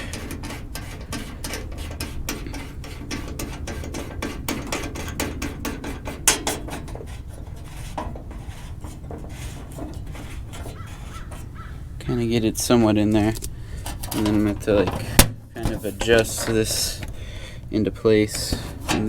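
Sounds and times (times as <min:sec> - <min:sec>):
metal panel clinking and tapping: 0:00.0 - 0:19.0.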